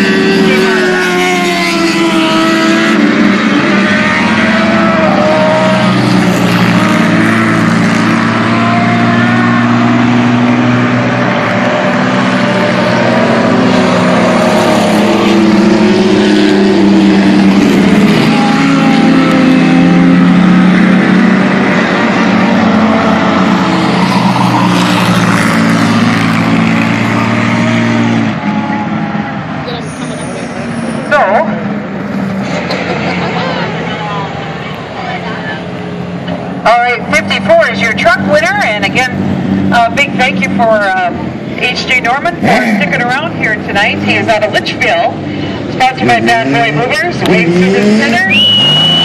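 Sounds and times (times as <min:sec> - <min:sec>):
racing truck engines: 0:00.0 - 0:49.0.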